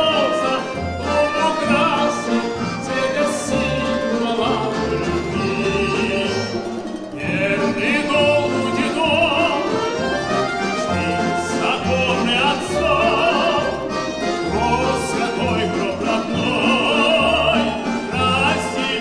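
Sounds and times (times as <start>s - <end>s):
man singing operatically: 0.0s - 19.0s
plucked folk string ensemble: 0.0s - 19.0s.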